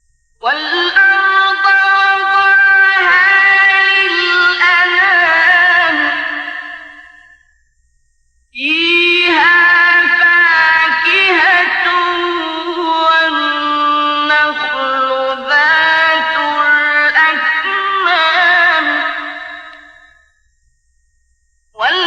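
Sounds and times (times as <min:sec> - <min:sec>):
man reciting melodically: 0:00.5 - 0:07.0, 0:08.7 - 0:19.7, 0:21.8 - 0:22.0.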